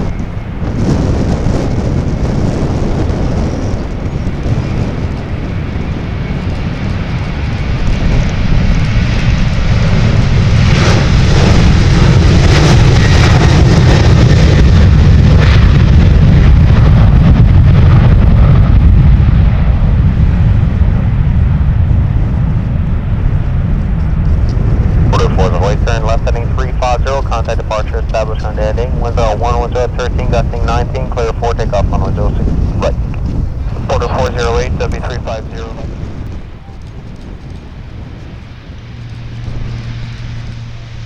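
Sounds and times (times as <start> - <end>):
jet engines at takeoff power: 0.0 - 41.0.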